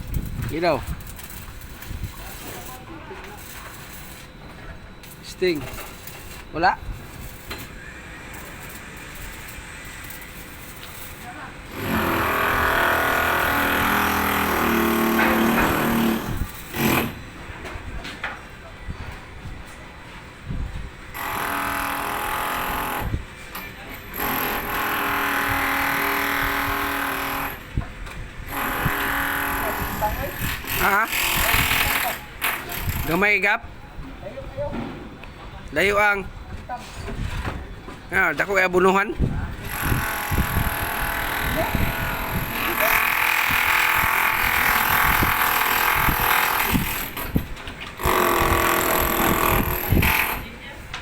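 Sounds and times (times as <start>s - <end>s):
arc welding crackling hiss: 0.0s - 17.2s, 21.1s - 33.6s, 38.5s - 51.0s.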